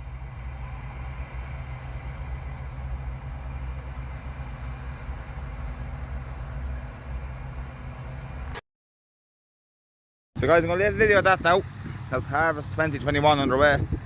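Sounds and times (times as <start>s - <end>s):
farm machinery engine droning: 0.0s - 8.6s, 10.4s - 14.0s.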